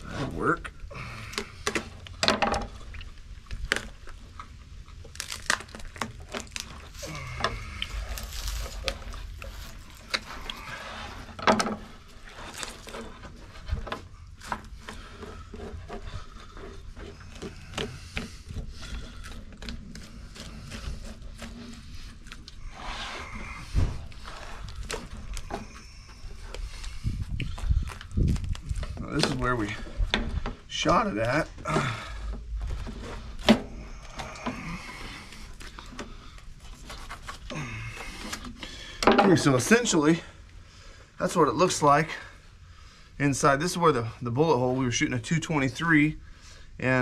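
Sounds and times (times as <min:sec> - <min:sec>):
low steady rumble: 0:00.0 - 0:47.0.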